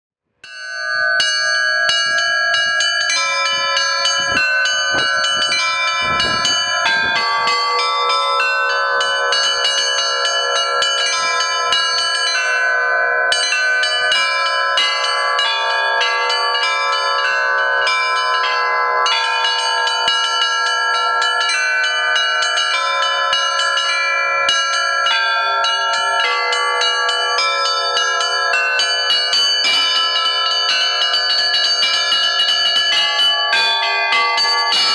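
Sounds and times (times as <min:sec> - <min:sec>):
church bells pealing: 0:00.4 - 0:34.9.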